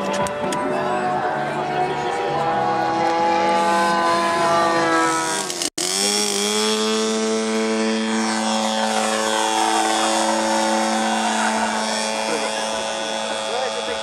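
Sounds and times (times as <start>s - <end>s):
model plane engine running: 0.0s - 14.0s.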